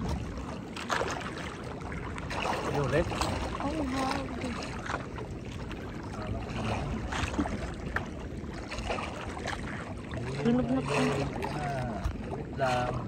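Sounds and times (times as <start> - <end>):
short splashes: 0.0 - 13.0
water lapping against a canoe hull: 0.0 - 13.0.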